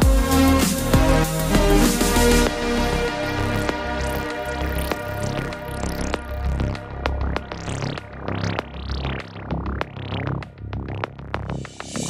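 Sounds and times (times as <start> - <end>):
pulsing bass: 0.0 - 12.0
synth sweeps: 1.6 - 12.0.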